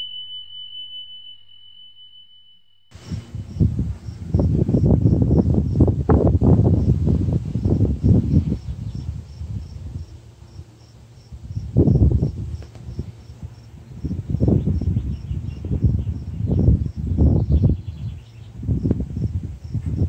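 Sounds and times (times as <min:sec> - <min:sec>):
cricket chirping: 0:00.0 - 0:20.0
wind buffeting microphone: 0:02.9 - 0:20.0.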